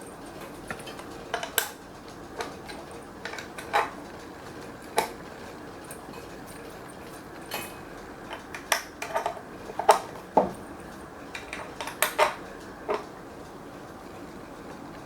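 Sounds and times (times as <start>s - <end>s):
hard objects clicking and knocking: 0.3s - 13.1s.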